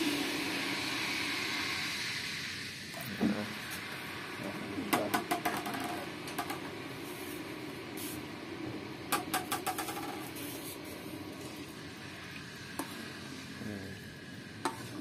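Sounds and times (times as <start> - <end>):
broth bubbling in a wok: 0.0 - 15.0.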